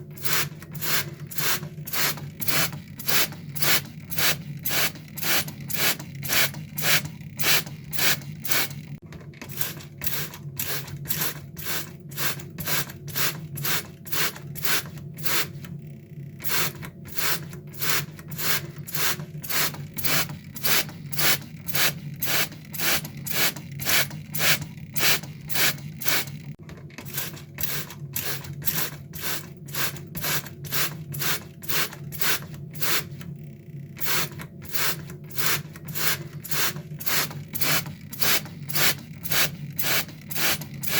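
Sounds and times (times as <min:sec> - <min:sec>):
spray bottle squirting: 0:00.2 - 0:08.8, 0:09.6 - 0:15.6, 0:16.4 - 0:26.4, 0:27.1 - 0:33.2, 0:34.0 - 0:40.9.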